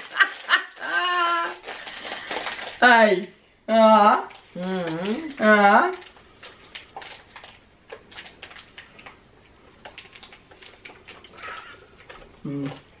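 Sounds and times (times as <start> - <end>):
biscuit crunching: 0.0 - 2.8, 4.2 - 13.0.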